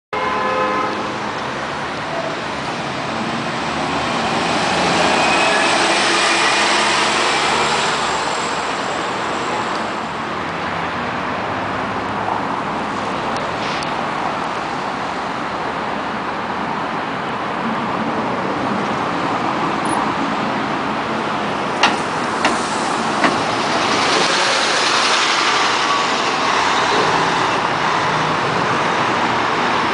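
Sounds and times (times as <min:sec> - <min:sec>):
steady road traffic: 0:00.1 - 0:29.9
bus driving past: 0:01.1 - 0:15.3, 0:18.6 - 0:29.9.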